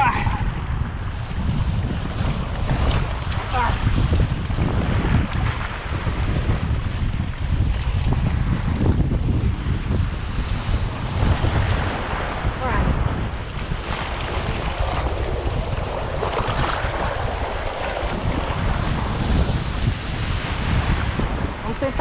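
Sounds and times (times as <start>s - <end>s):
sea surf breaking on rocks: 0.0s - 22.0s
wind buffeting microphone: 0.0s - 22.0s.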